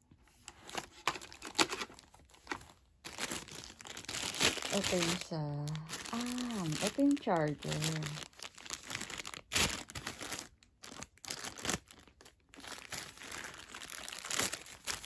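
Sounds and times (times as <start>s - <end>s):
plastic bag crinkling: 0.6s - 15.0s.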